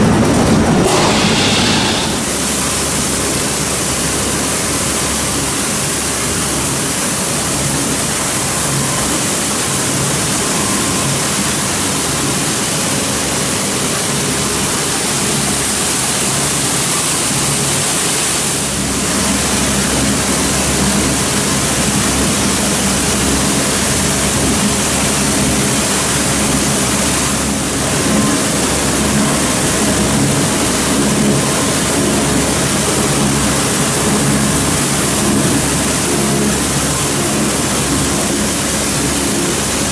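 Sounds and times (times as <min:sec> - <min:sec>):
broad rushing machine noise: 0:00.0 - 0:39.9.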